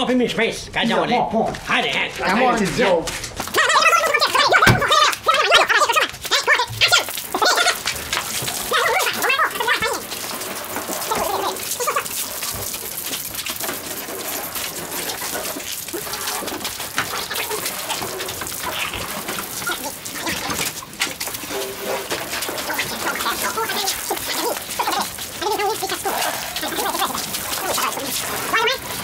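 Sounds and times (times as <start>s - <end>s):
hands scrubbing wet panels: 1.5s - 29.0s
hose spraying water on car: 3.4s - 29.0s.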